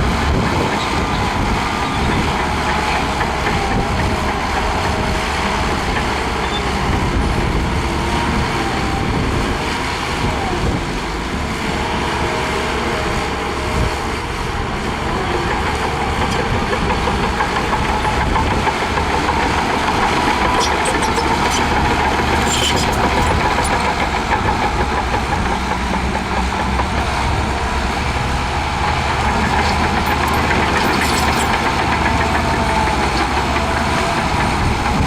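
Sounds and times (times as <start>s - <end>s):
heavy diesel engine rumbling: 0.0s - 35.0s.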